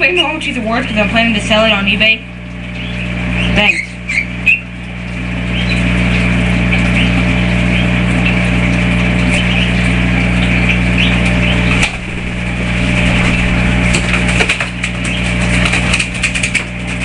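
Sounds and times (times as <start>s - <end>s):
small motor humming: 2.6s - 16.5s.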